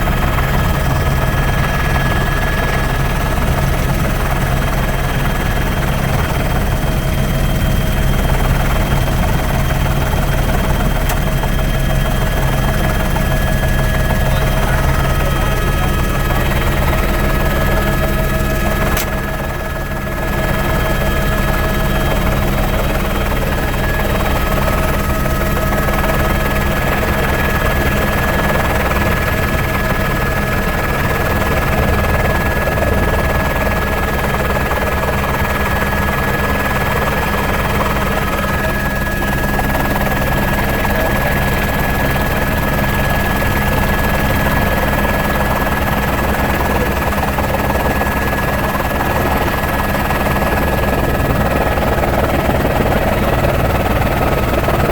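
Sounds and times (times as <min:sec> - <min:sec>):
helicopter rotor and engine: 0:00.0 - 0:54.9.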